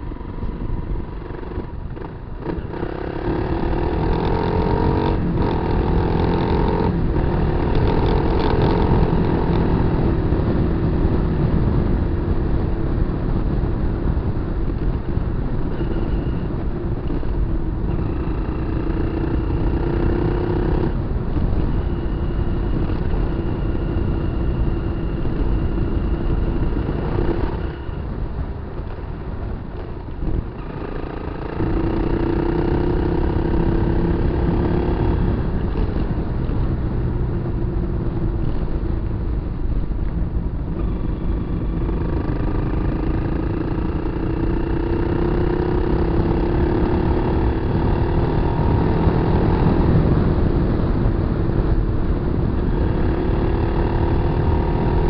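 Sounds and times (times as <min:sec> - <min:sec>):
constant low rumble: 0:00.0 - 0:04.3, 0:05.0 - 0:55.0
motorcycle engine accelerating: 0:00.0 - 0:55.0.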